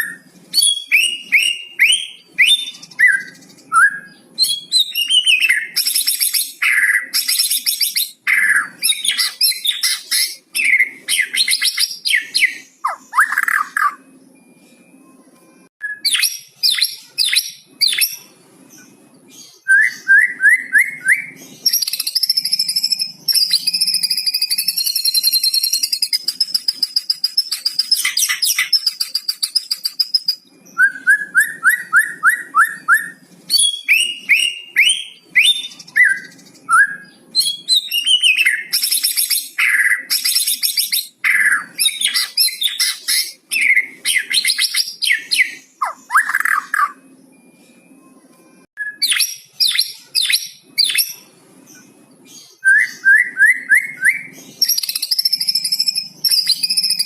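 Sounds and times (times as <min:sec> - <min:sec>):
songbird singing varied song: 0:00.0 - 0:14.5, 0:15.8 - 0:47.5, 0:48.8 - 0:57.0.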